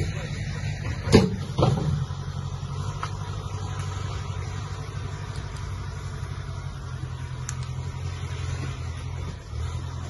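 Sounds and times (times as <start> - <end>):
engine idling hum: 0.0 - 10.0.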